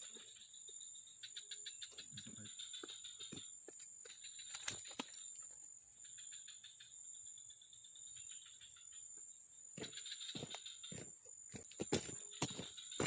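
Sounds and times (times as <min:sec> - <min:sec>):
insect chorus whining and trilling: 0:00.0 - 0:13.0.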